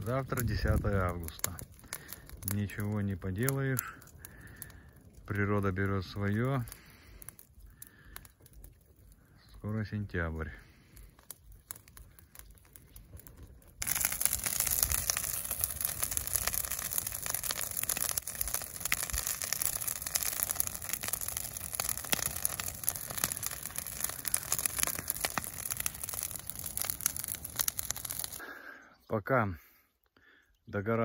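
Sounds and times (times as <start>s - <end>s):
bonfire crackling and popping: 0.0s - 28.9s.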